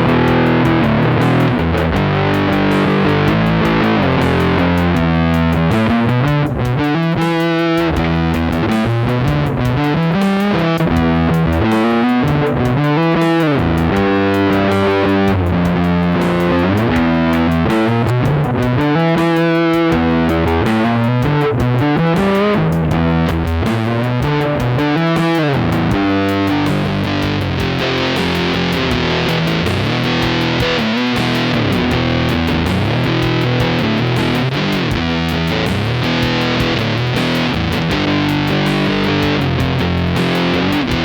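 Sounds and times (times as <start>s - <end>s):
distorted electric guitar chords: 0.0s - 41.0s.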